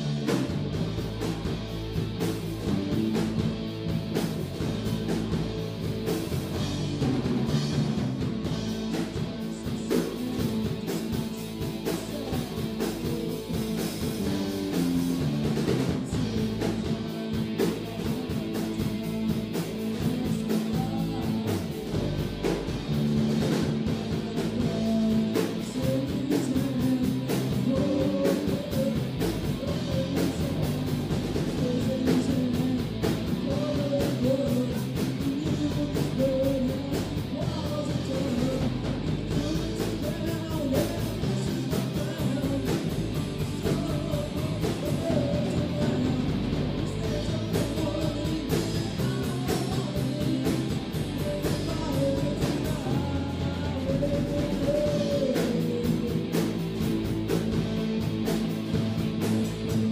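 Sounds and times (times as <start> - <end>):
bass guitar: 0.0 - 59.9
drum kit: 0.0 - 59.9
electric guitars: 0.0 - 59.9
man singing: 6.1 - 59.9.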